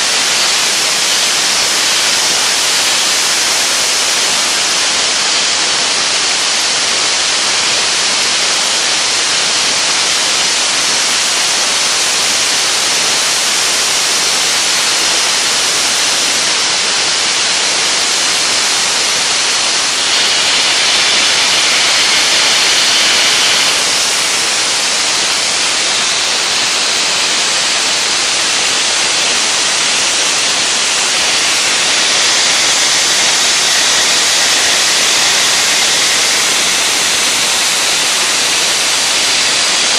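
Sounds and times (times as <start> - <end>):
dry ice blaster hissing: 0.0 - 39.9.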